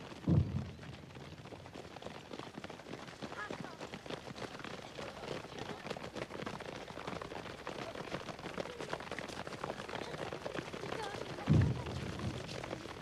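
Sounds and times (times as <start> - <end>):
children running on dirt: 0.0 - 13.0.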